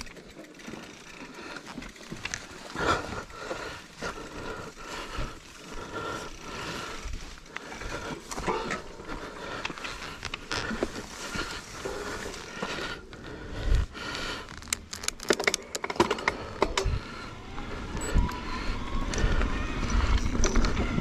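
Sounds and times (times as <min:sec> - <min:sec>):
bike rattling over bumps: 0:00.0 - 0:21.0
bike tyres on dirt and rock: 0:00.0 - 0:21.0.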